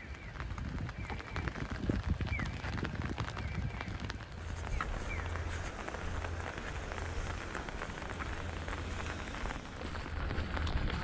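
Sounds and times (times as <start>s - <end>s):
rain falling on umbrella: 0.0s - 11.0s.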